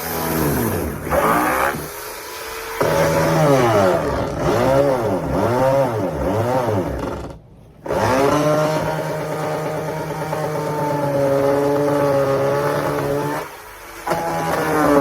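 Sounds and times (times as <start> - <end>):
chainsaw engine revving: 0.0 - 2.0, 2.8 - 15.0.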